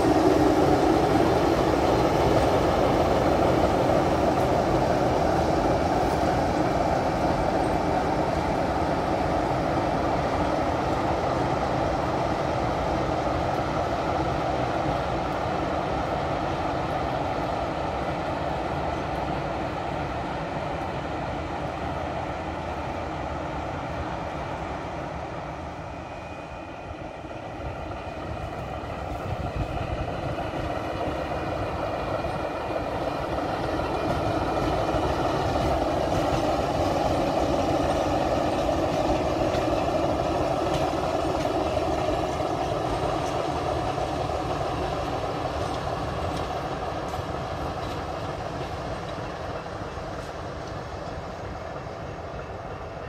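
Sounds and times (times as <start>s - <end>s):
diesel locomotive engine passing: 0.0s - 53.0s.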